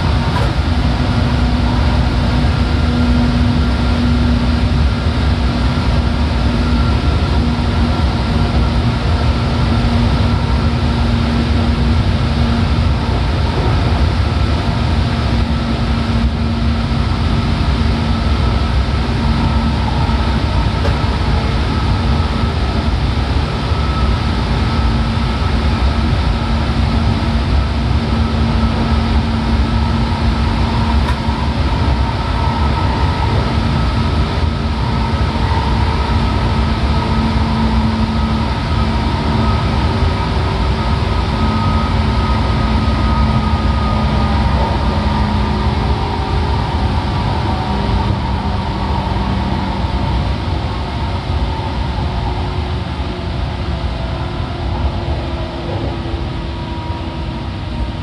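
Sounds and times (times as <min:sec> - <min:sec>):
constant hum: 0:00.0 - 0:58.0
electric train rumbling: 0:00.0 - 0:58.0.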